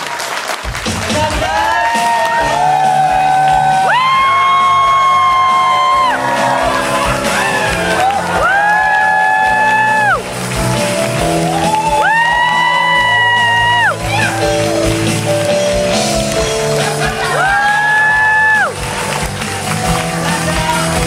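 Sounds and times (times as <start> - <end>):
audience cheering: 0.0 - 21.0
music playing in a hall: 0.0 - 21.0.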